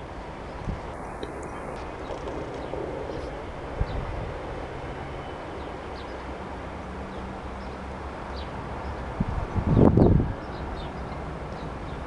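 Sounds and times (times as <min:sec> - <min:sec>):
distant lorry road noise: 0:00.0 - 0:12.0.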